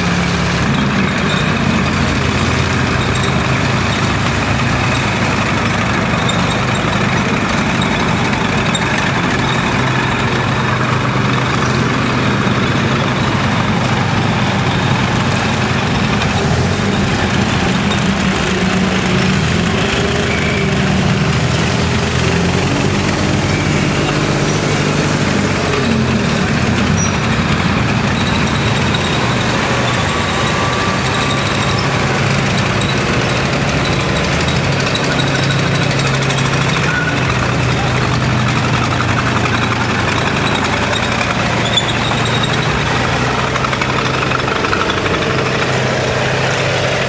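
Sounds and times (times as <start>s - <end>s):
tracked vehicles engines humming: 0.0s - 47.0s.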